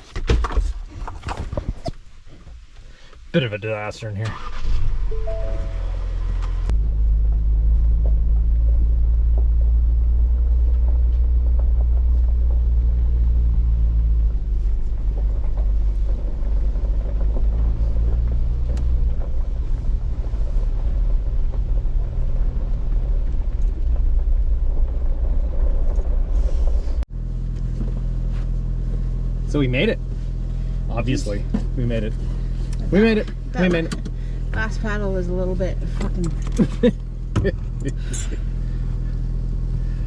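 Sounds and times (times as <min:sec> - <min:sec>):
car engine and road drone: 0:02.2 - 0:40.0.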